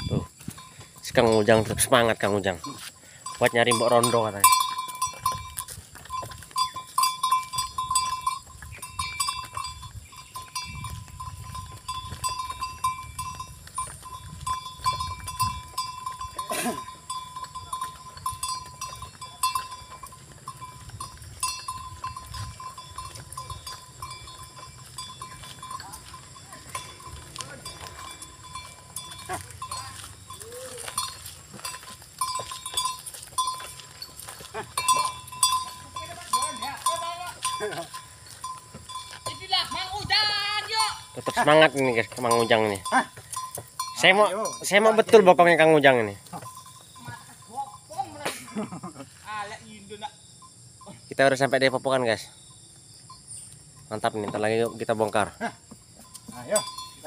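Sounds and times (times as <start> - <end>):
cart wheels rumbling on asphalt: 0.0 - 48.2
small bell jingling: 0.0 - 57.0.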